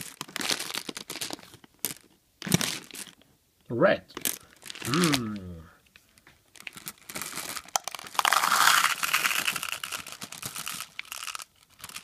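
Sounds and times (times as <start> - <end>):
candies pattering into plastic cup: 0.0 - 3.2, 4.2 - 5.5, 6.5 - 12.0
plastic bag crinkling: 0.0 - 3.2, 4.2 - 5.6, 6.2 - 12.0.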